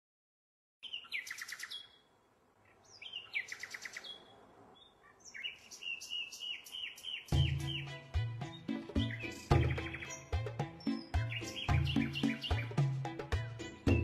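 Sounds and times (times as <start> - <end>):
small songbird singing: 0.8 - 14.0.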